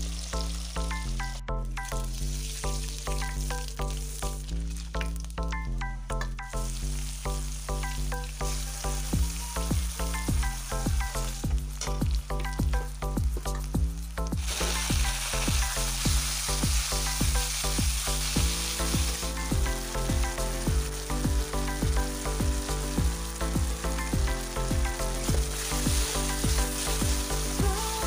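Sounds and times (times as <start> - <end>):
vegetables sizzling in hot oil: 0.0 - 5.5, 6.4 - 28.0.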